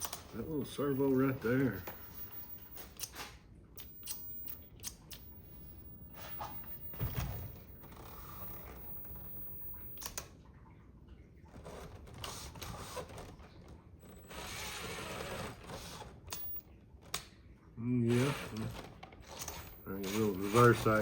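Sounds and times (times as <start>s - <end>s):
small motor whirring: 0.0s - 3.2s, 3.8s - 10.2s, 11.6s - 13.4s, 14.0s - 16.6s, 18.0s - 21.0s.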